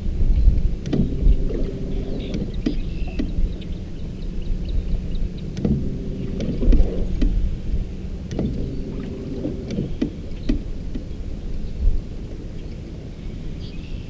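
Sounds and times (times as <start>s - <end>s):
low rumbling water wash: 0.0s - 14.0s
steady low hum: 0.0s - 14.0s.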